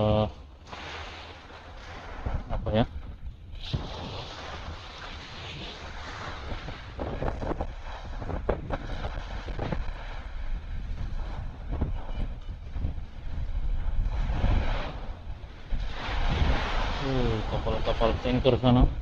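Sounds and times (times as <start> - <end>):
surf washing on shore: 0.6 - 19.0
wind buffeting microphone: 0.8 - 19.0.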